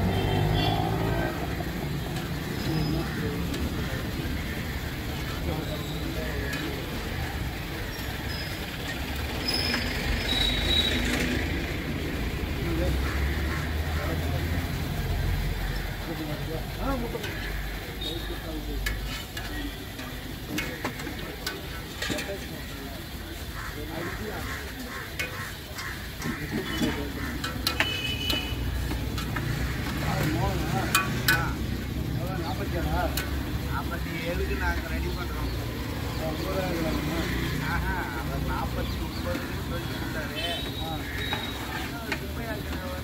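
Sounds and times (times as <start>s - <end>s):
low street rumble: 0.0s - 43.0s
oil bubbling and sizzling: 0.1s - 43.0s.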